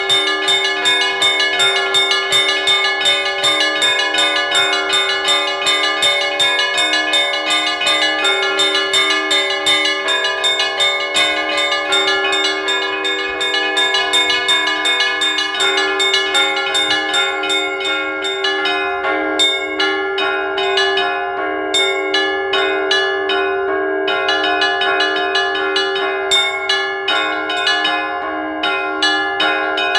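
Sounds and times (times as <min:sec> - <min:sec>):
deep bell tolling: 0:00.0 - 0:29.9
small church bells pealing: 0:00.0 - 0:29.9.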